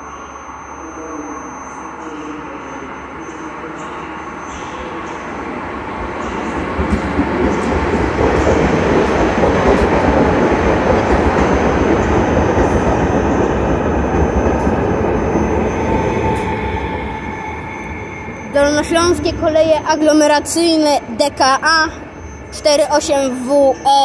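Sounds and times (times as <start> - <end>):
train wheels rumbling on rails: 4.5 - 24.0.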